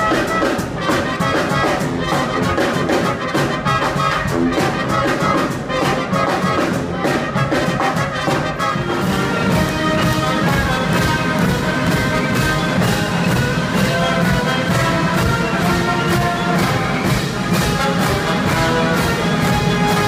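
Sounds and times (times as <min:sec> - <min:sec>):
bass and snare drums: 0:00.0 - 0:20.0
brass band playing: 0:00.0 - 0:20.0.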